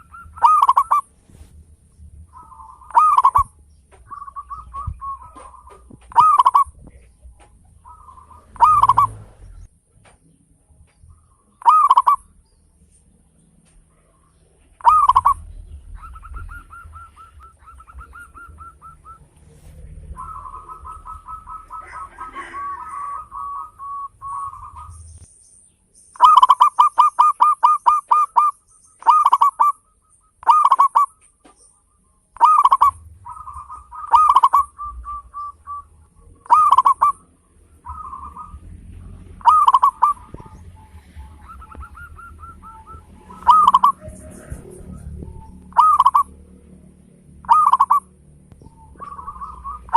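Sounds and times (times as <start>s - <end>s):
dove cooing: 0.0s - 1.4s, 2.2s - 9.7s, 11.1s - 12.4s, 13.9s - 25.2s, 26.2s - 31.6s, 32.3s - 49.9s.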